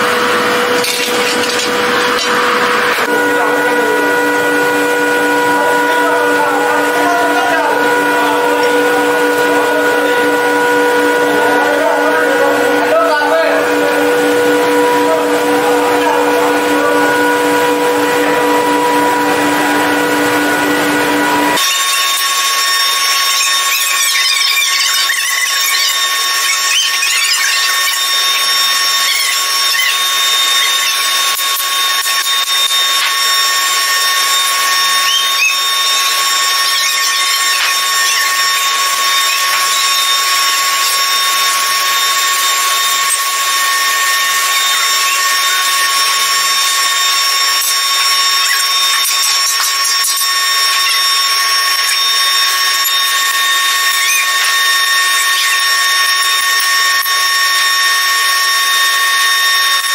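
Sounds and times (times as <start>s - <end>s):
power machine whining: 0.0s - 59.9s.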